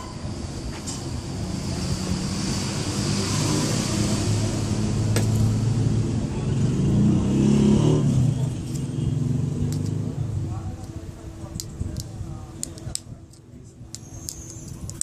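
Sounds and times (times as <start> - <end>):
traffic noise: 0.0 - 15.0
vehicle engine rumble: 0.0 - 15.0.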